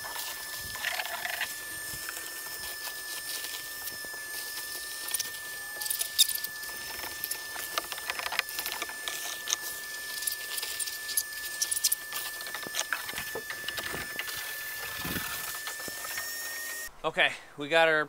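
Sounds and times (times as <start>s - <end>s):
steady high whine: 0.0s - 18.0s.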